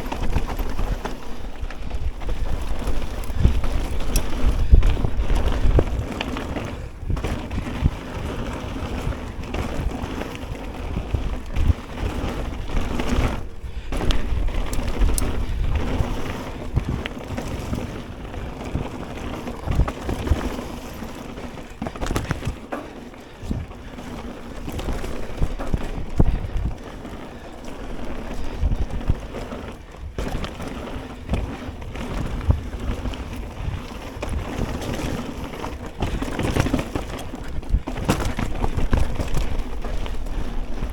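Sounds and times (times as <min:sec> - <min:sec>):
wind buffeting microphone: 0:00.0 - 0:22.6, 0:23.3 - 0:40.9
bike knocking and rattling: 0:00.0 - 0:40.9
bike tyres on dirt and gravel: 0:00.0 - 0:40.9.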